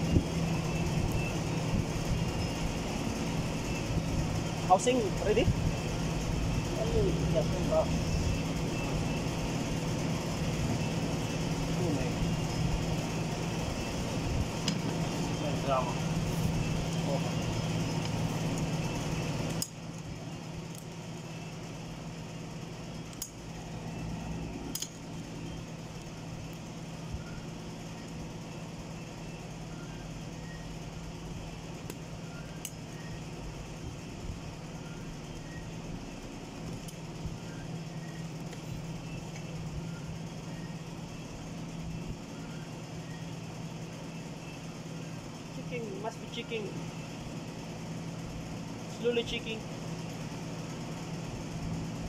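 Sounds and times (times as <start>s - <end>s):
low machine hum: 0.0s - 52.0s.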